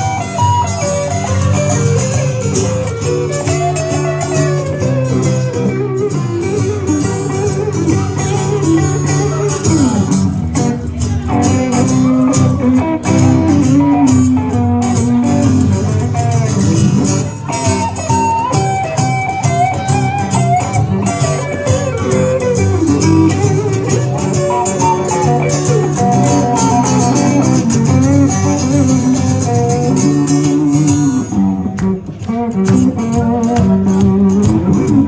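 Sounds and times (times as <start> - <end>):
electric guitar: 0.0 - 35.0
small band playing live: 0.0 - 35.0.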